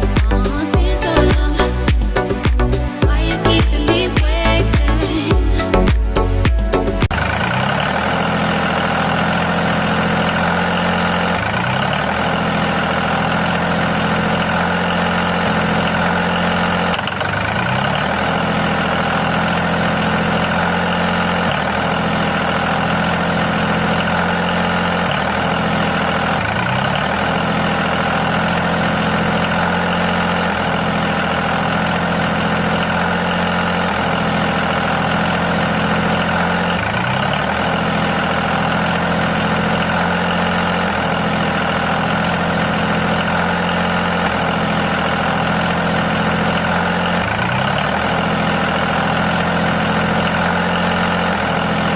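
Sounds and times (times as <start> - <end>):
tractor engine idling: 0.0 - 51.9.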